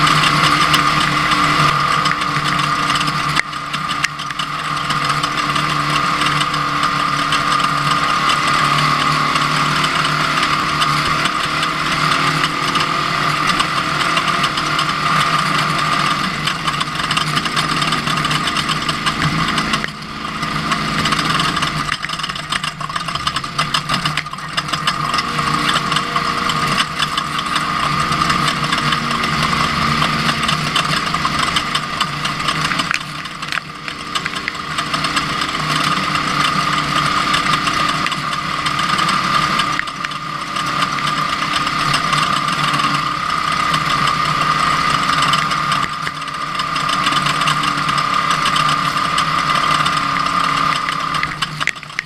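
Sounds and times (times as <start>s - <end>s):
truck engine running: 0.0s - 52.0s
truck rattling and clattering: 0.0s - 52.0s.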